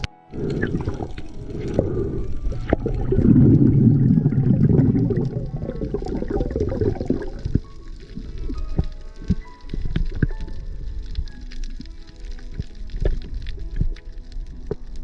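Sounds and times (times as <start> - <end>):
water gurgling and sloshing: 0.0 - 15.0.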